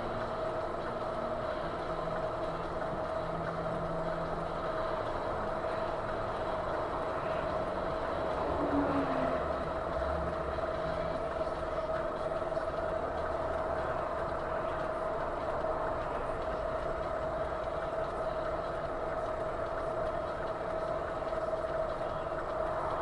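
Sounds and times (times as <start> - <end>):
constant whine: 0.0 - 23.0
vehicle engine rumble: 0.0 - 23.0.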